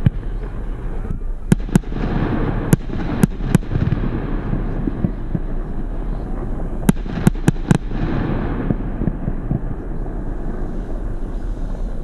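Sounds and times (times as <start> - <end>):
firework bangs: 0.0 - 12.0
firework crackling and rumble: 0.0 - 12.0.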